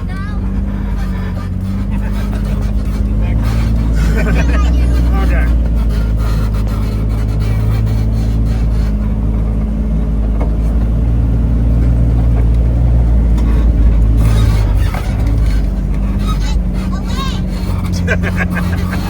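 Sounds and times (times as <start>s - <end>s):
off-road vehicle engine droning: 0.0s - 19.0s.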